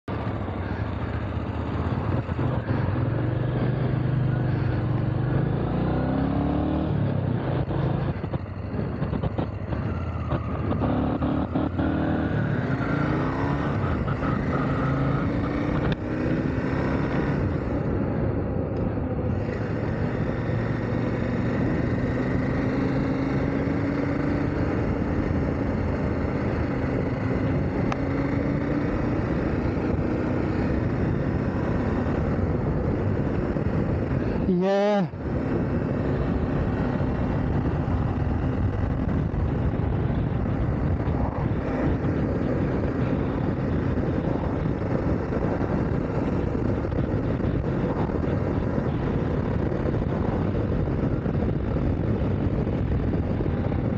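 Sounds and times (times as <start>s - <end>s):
road and wind noise: 0.0s - 53.9s
motorcycle engine accelerating: 0.1s - 53.9s.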